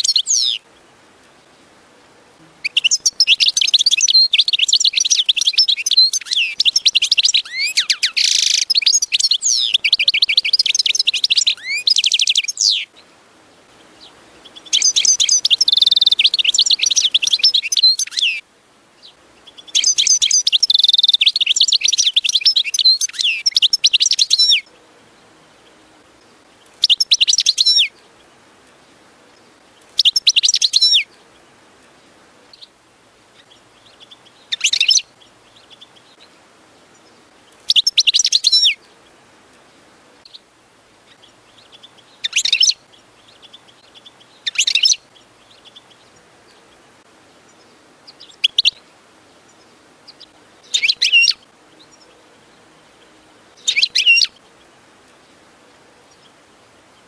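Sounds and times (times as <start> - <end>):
bird twittering song: 0.0 - 1.8, 2.4 - 57.0.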